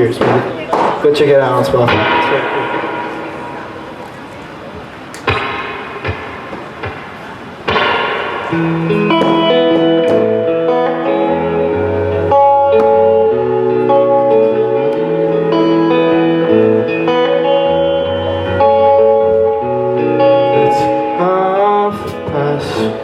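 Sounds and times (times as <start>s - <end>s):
slow guitar playing: 1.8s - 23.0s.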